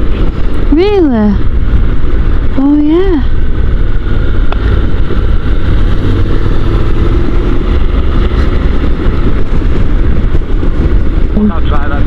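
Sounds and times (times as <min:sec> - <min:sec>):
motorcycle engine drone: 0:00.0 - 0:12.0
wind noise on microphone: 0:00.0 - 0:12.0.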